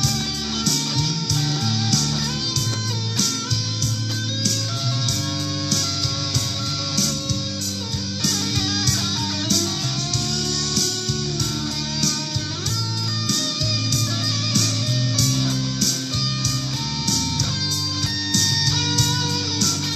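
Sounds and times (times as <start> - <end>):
bass and drums backing: 0.0 - 19.9
electric guitar melody: 0.0 - 19.9.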